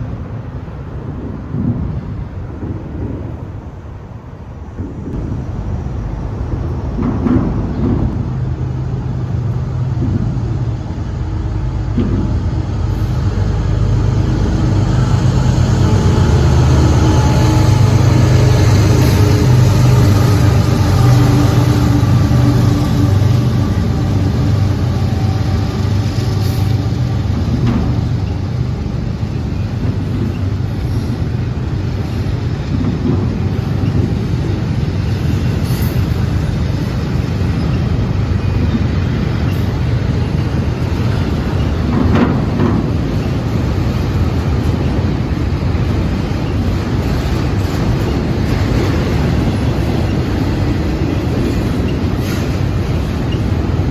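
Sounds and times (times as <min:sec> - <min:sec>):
diesel locomotive engine humming: 0:00.0 - 0:53.9.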